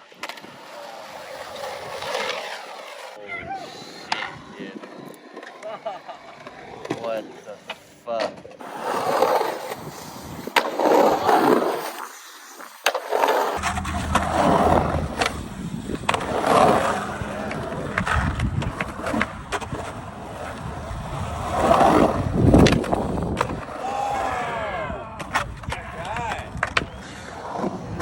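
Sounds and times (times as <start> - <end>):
skateboard wheels rolling: 0.0 - 28.0
skateboard clacks: 4.0 - 23.9, 25.2 - 28.0.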